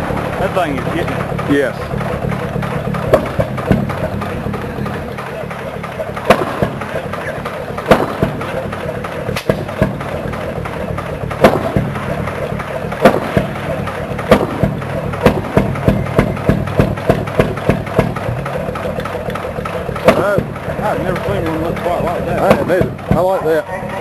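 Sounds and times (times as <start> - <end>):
low mechanical rumble: 0.0 - 24.0
old engine firing bangs: 0.0 - 24.0.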